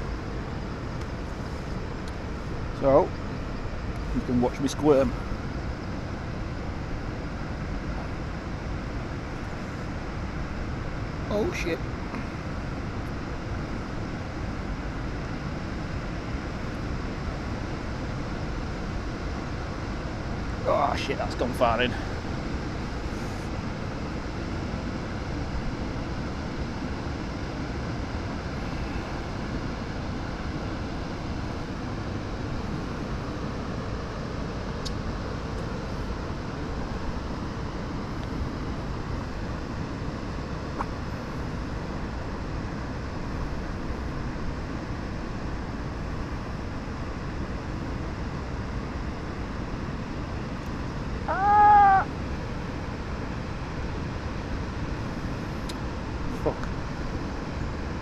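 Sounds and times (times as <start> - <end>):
rushing outdoor background noise: 0.0 - 58.0.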